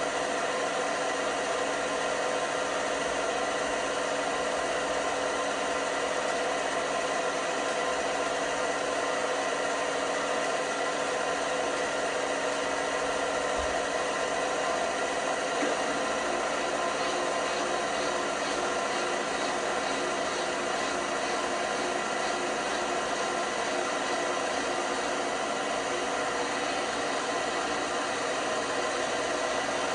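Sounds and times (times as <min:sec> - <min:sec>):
washing machine whirring: 0:00.0 - 0:29.9.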